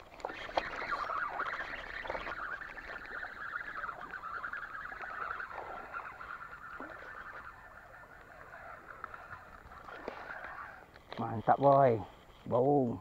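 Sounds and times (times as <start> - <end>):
fishing reel whirring and ticking: 0.0 - 13.0.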